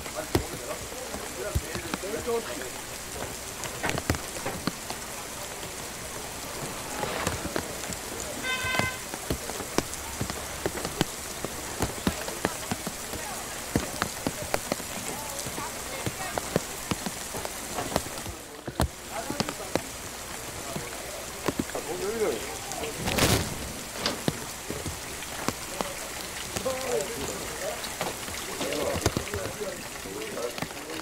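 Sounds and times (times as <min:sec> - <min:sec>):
close raindrops tapping: 0:00.0 - 0:31.0
rain falling: 0:00.0 - 0:31.0.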